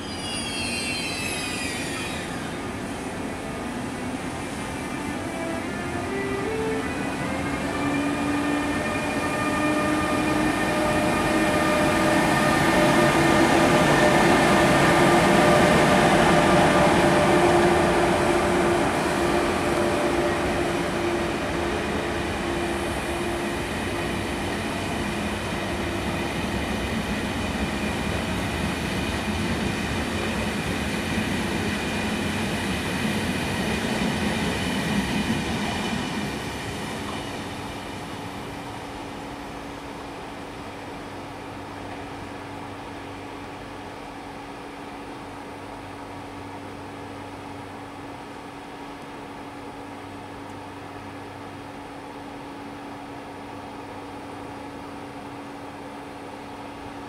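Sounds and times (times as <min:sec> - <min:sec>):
electric locomotive whining: 0:00.0 - 0:57.0.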